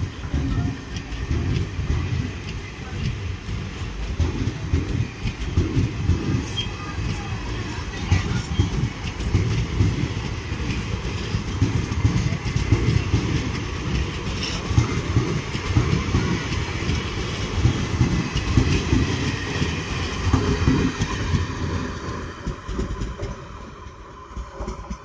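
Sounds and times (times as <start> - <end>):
train wheels rumbling and clacking: 0.0 - 25.0.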